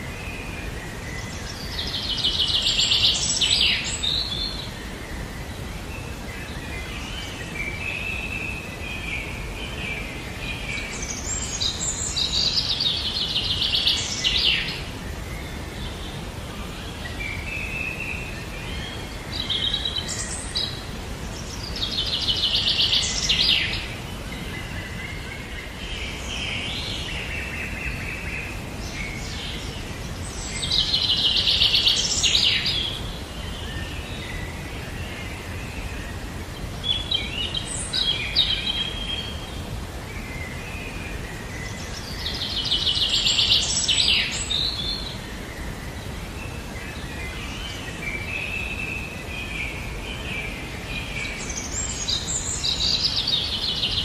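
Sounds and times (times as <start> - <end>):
low background noise: 0.0 - 54.0.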